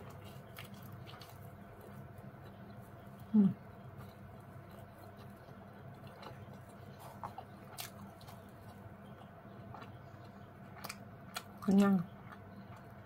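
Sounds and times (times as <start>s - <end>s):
chewing and mouth sounds: 0.0s - 13.0s
steady low hum: 0.0s - 13.0s.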